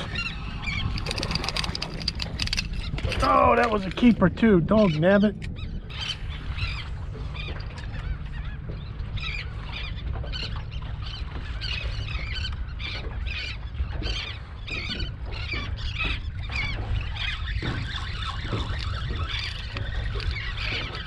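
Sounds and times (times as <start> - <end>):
seabirds calling: 0.0 - 21.0
wind rumble on microphone: 0.0 - 21.0.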